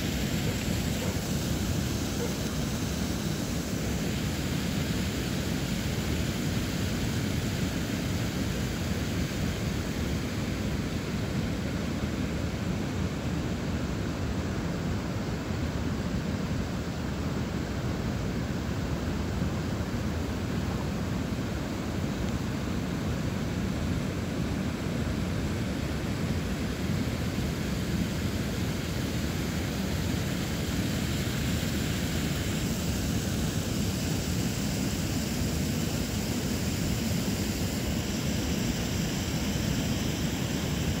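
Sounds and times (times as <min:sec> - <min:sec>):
water rushing over waterfall: 0:00.0 - 0:41.0.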